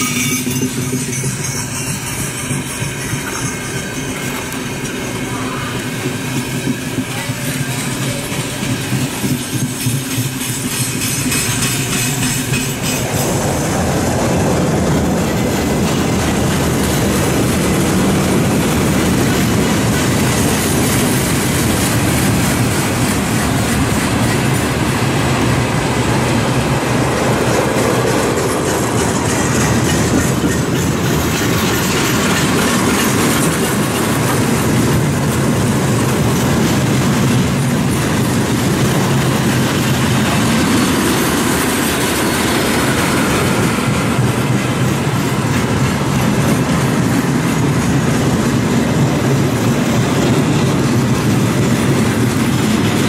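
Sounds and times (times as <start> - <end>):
freight train rolling past: 0.0 - 53.0
wheels rattling on rails: 0.0 - 53.0.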